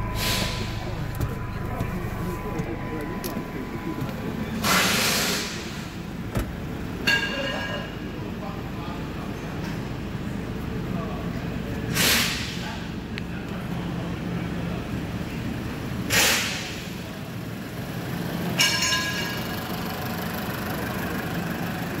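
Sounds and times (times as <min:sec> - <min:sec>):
car engine idling: 0:00.0 - 0:09.2, 0:13.0 - 0:22.0.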